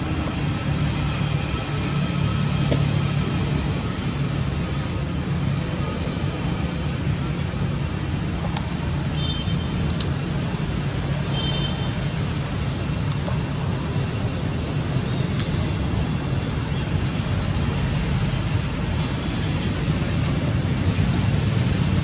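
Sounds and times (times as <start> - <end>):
engines and road traffic hum: 0.0 - 22.0.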